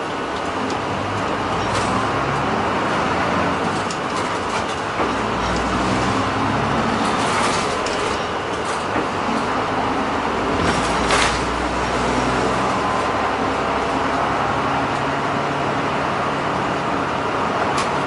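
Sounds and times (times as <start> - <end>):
bus engine drone: 0.0 - 18.0
tyre and road noise: 0.0 - 18.0.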